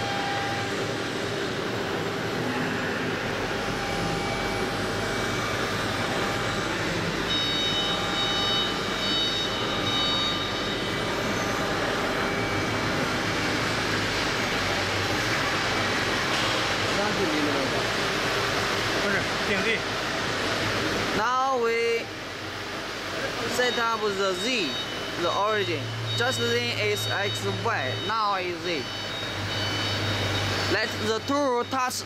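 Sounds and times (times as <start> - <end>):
high whine: 0.0 - 32.0.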